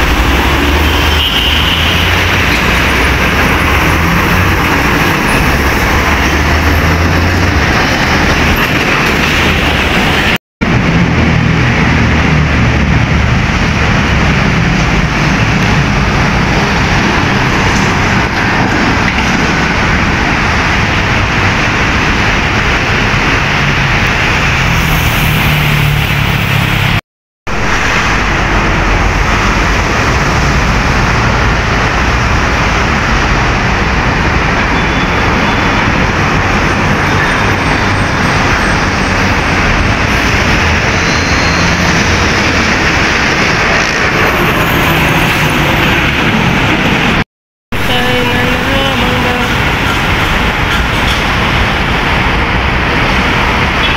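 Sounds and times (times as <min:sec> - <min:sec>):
city road traffic: 0:00.0 - 0:53.9.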